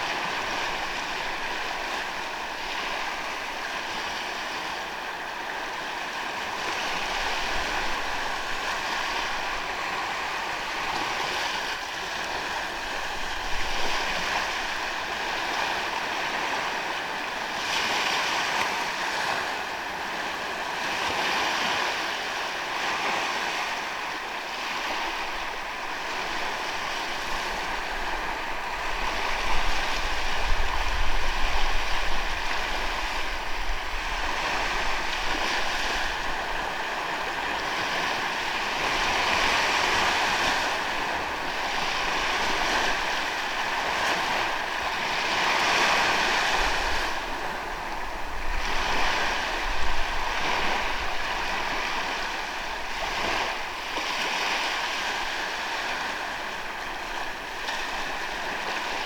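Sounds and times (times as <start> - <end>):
ocean surf on sandy beach: 0.0 - 59.0.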